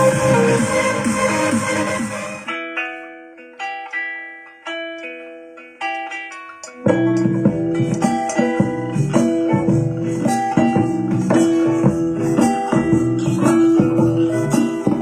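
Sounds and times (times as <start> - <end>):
music with guitar and percussion: 2.4 - 15.0.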